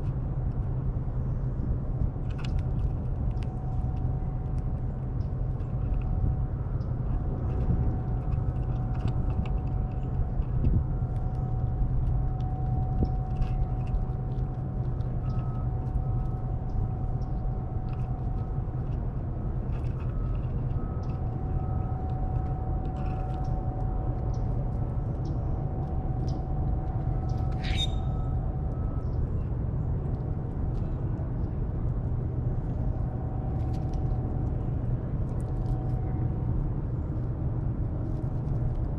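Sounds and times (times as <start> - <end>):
faint hum: 0.0 - 38.9.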